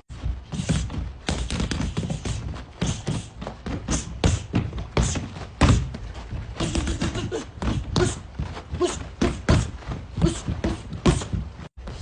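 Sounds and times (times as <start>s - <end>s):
scuffle thumps and knocks: 0.0s - 12.0s.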